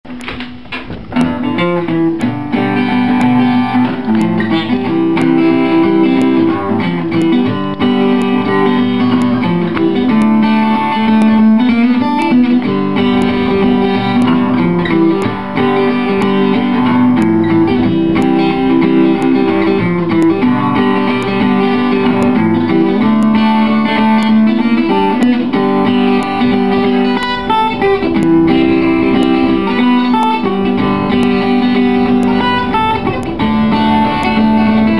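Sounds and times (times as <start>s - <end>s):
acoustic guitar bluegrass boogie: 0.0s - 34.9s.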